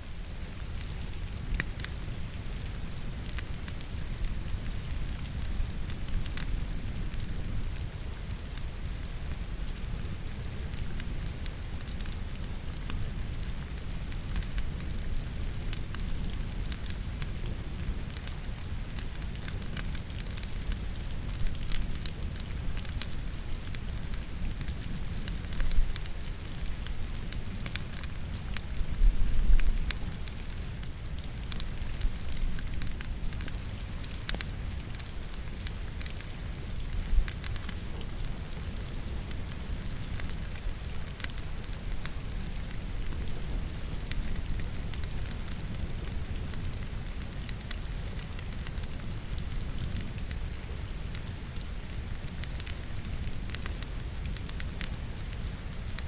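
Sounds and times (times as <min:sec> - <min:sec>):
low rumble of fire: 0:00.0 - 0:56.0
rain falling: 0:00.0 - 0:56.0
wood fire crackling and popping: 0:00.0 - 0:56.0.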